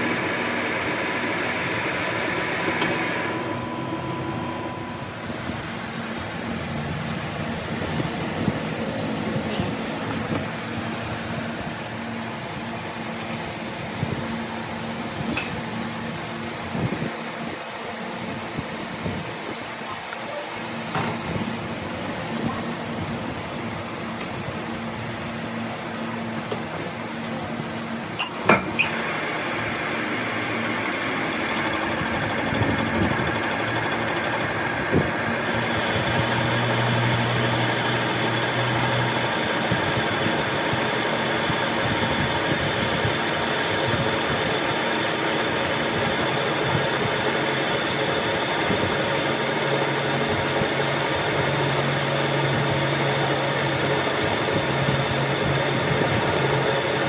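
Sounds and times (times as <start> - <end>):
machine motor running: 0.0 - 17.6, 20.6 - 57.0.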